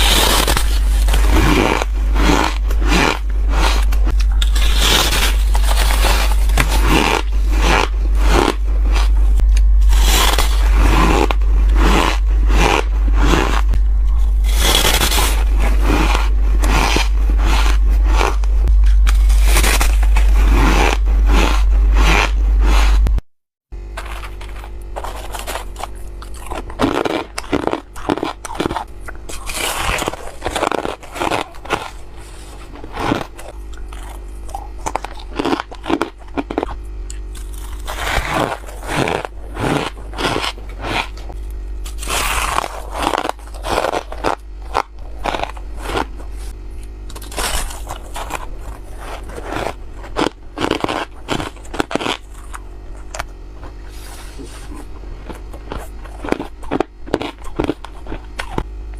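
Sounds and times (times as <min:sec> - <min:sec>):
person chewing squeaky ice: 0:00.0 - 0:23.1, 0:24.0 - 0:46.4, 0:47.1 - 0:53.2, 0:53.8 - 0:58.7.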